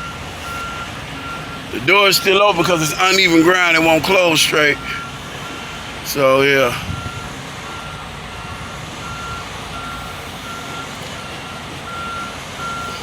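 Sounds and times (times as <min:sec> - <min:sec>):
truck engine rumble: 0:00.0 - 0:13.0
truck reverse alarm beeping: 0:00.0 - 0:13.0.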